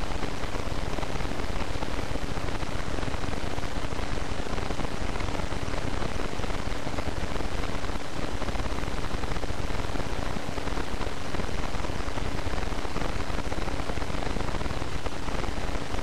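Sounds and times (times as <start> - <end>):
faint steady hum: 0.0 - 16.0
steady broadband hiss: 0.0 - 16.0.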